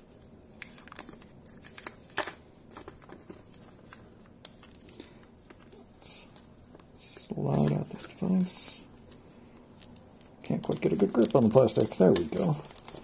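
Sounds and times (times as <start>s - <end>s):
plastic sleeve crinkling: 0.1s - 13.0s.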